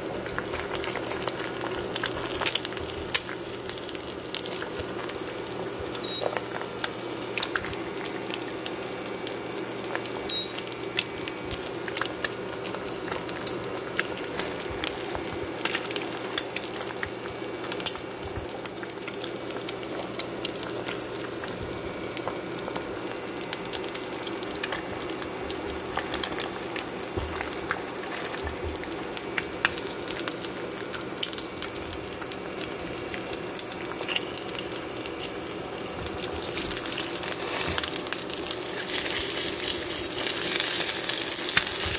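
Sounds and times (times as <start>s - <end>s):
eggs sizzling in a pan: 0.0s - 41.9s.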